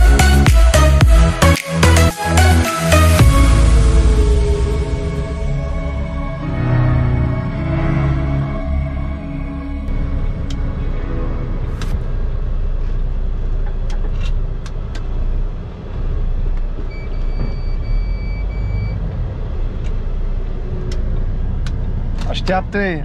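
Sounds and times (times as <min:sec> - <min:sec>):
truck engine rumble from cab: 0:00.0 - 0:23.0.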